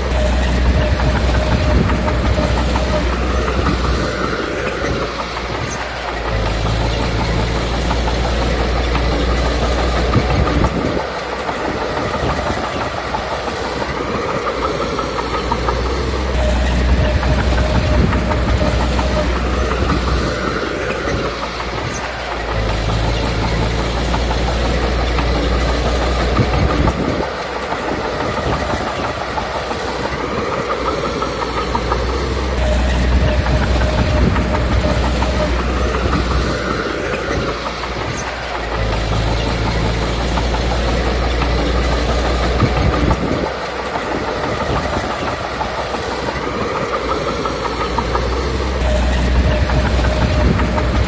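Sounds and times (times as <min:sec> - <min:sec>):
bulldozer diesel engine rumbling: 0:00.0 - 0:51.0
steel tracks clanking: 0:00.0 - 0:51.0.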